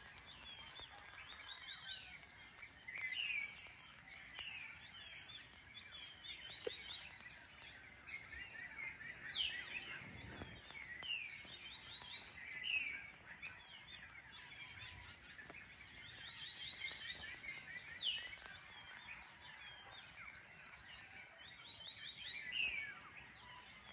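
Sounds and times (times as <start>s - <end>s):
birds chirping and trilling: 0.0s - 23.9s.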